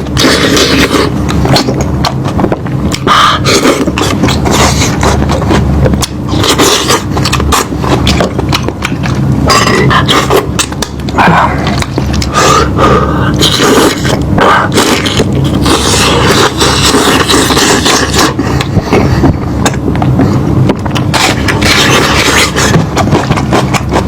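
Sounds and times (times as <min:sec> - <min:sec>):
person chewing meat: 0:00.0 - 0:24.0.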